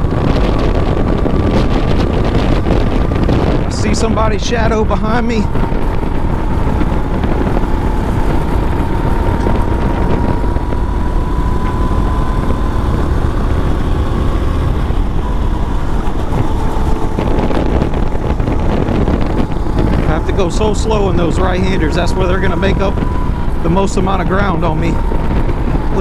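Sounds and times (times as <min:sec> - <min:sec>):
faint whine: 0:00.0 - 0:26.0
go-kart engine racing: 0:00.0 - 0:26.0
wind buffeting microphone: 0:00.0 - 0:26.0.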